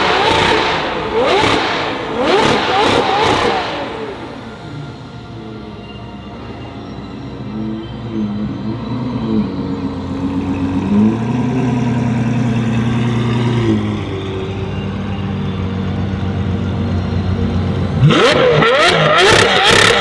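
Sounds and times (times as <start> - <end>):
car engine running and revving: 0.0 - 20.0.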